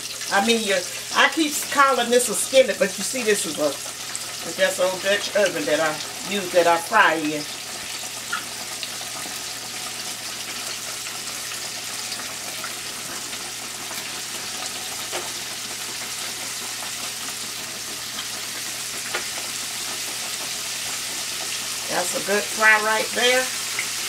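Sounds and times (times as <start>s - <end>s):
fish deep-frying sizzle: 0.0s - 24.0s.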